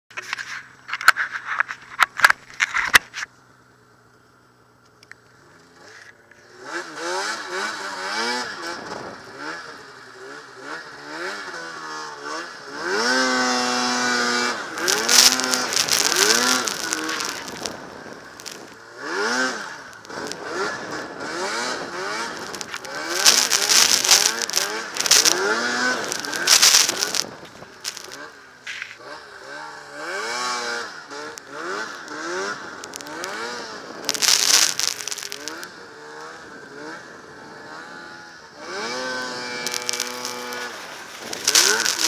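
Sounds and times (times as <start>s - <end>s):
snowmobile engine revving: 5.6s - 42.0s.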